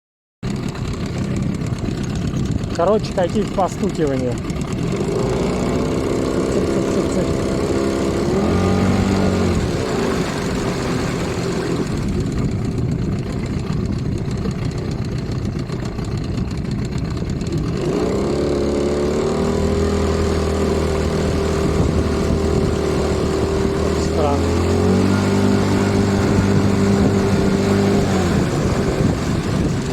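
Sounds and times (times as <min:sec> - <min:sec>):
outboard motor revving: 0:00.4 - 0:29.9.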